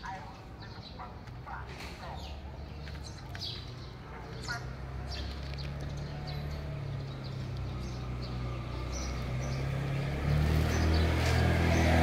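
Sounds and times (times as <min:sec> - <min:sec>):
engine humming: 0:02.2 - 0:12.0.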